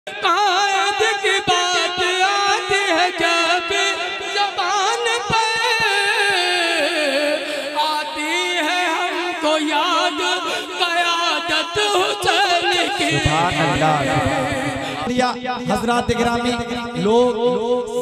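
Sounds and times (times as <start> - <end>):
man singing devotional song: 0.1 - 18.0.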